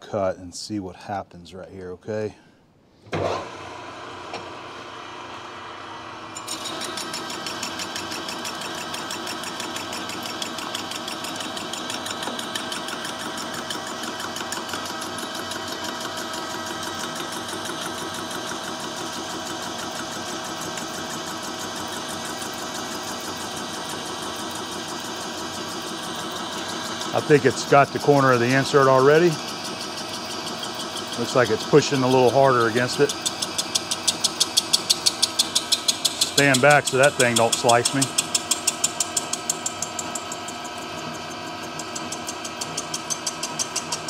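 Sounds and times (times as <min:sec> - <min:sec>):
lathe running: 0:03.2 - 0:44.0
harsh metal cutting with ticking: 0:06.3 - 0:44.0.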